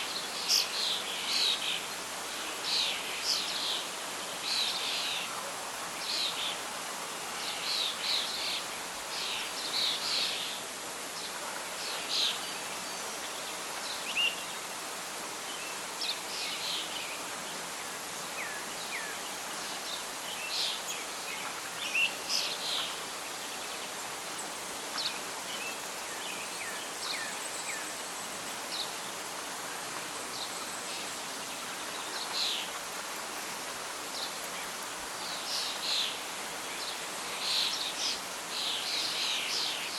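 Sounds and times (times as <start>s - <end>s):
rustling leaves: 0.0s - 39.9s
wind: 0.0s - 39.9s.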